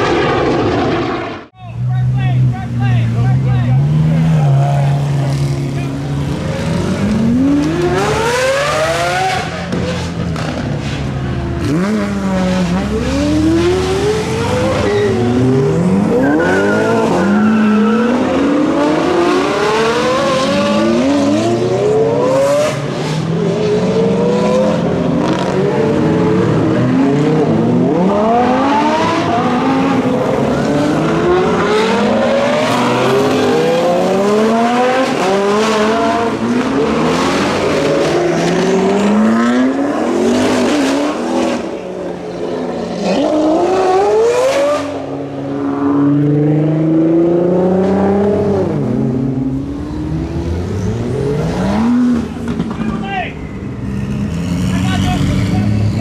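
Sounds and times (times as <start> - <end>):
car engines accelerating hard: 0.0 - 56.0.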